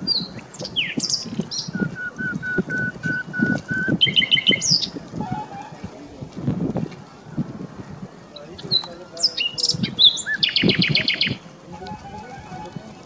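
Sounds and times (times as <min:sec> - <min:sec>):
birds calling and singing: 0:00.0 - 0:05.6, 0:07.8 - 0:13.0.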